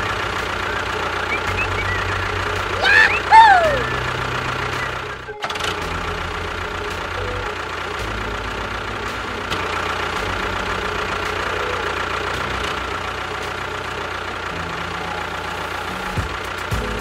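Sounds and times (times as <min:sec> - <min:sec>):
motor running with low throb: 0:00.0 - 0:03.2, 0:03.8 - 0:17.0.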